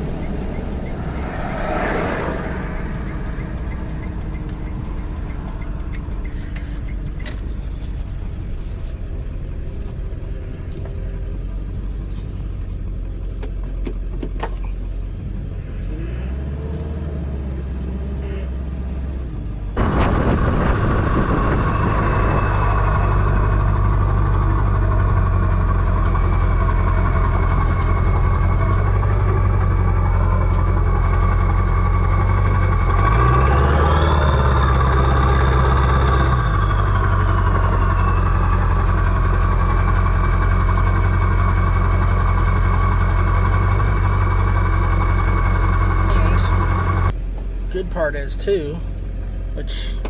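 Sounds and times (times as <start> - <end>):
diesel engine idling with clatter: 0.0 - 50.0
diesel truck engine running: 0.0 - 50.0.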